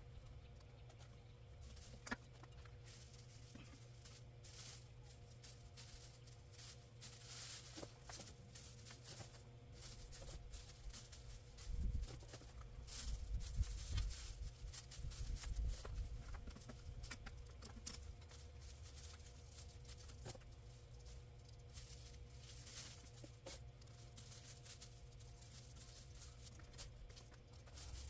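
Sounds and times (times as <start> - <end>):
vine rustling and crackling: 0.5 - 28.0.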